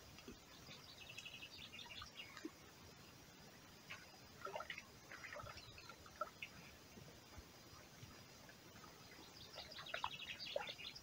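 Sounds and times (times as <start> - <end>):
low outdoor hiss: 0.0 - 11.0
songbird singing: 0.0 - 11.0.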